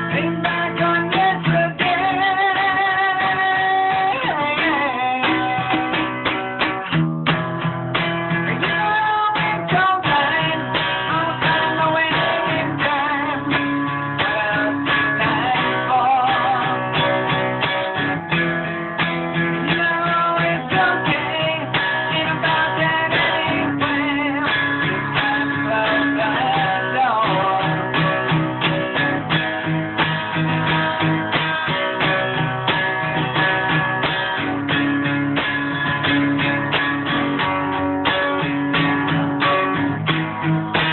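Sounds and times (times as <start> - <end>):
guitar strummed and picked: 0.0 - 40.9.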